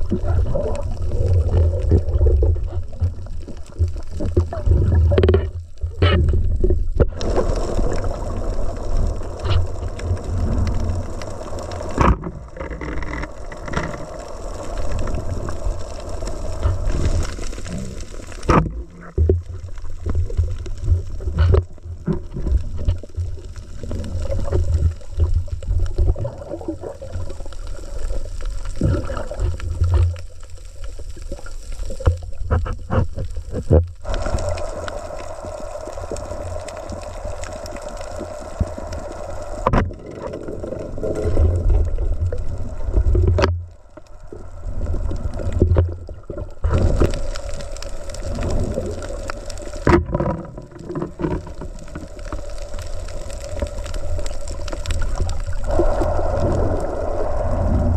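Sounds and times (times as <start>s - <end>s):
muffled underwater rumble: 0.0s - 57.9s.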